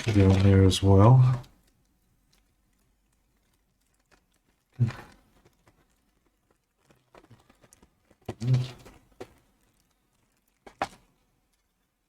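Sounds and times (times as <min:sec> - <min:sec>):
plastic parts clicking and rustling: 0:00.0 - 0:12.0.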